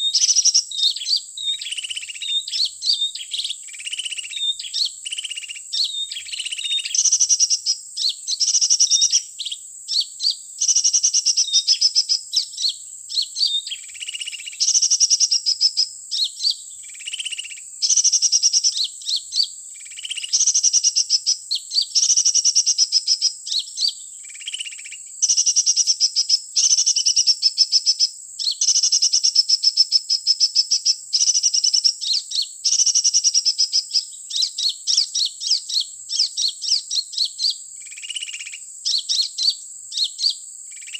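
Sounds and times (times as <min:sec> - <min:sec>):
bird song playback chirping: 0:00.0 - 0:40.9.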